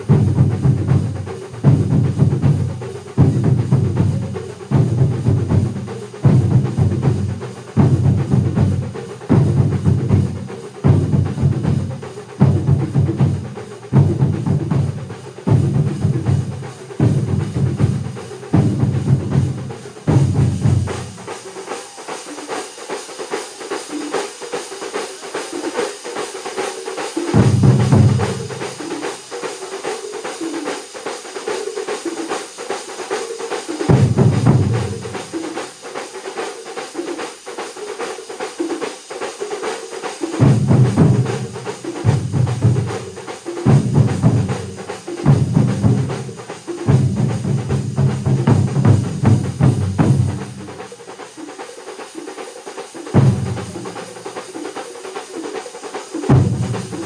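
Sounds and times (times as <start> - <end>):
drum ensemble playing: 0.0 - 57.0.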